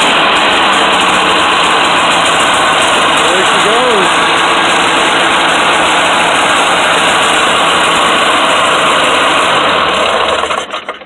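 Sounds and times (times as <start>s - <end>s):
ultralight aircraft engine running: 0.0s - 11.0s.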